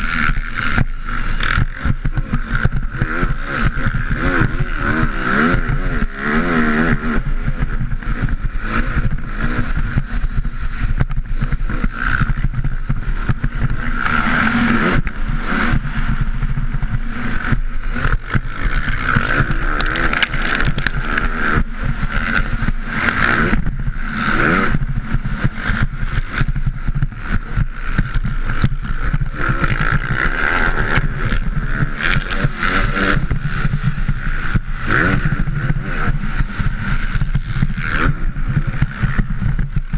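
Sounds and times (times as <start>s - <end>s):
motocross bike engine revving: 0.0s - 39.5s.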